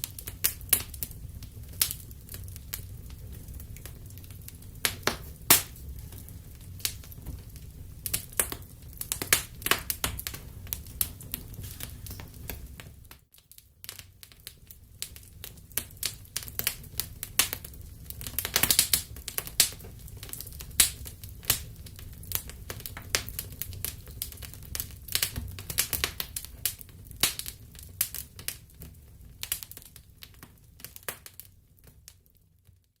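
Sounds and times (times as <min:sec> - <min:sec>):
wood fire pops and snaps: 0:00.0 - 0:32.8
low rumble of burning: 0:00.0 - 0:32.9.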